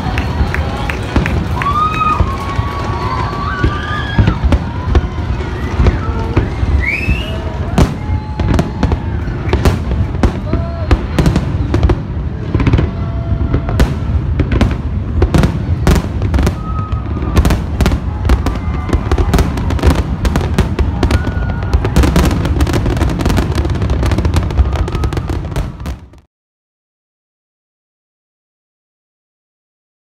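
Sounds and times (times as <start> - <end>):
fireworks bangs: 0.0 - 26.3.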